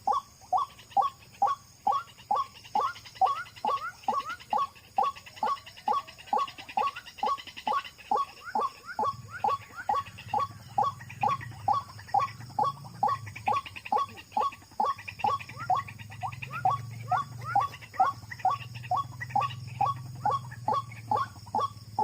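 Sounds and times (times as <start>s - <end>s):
waterhen calling: 0.0s - 22.0s.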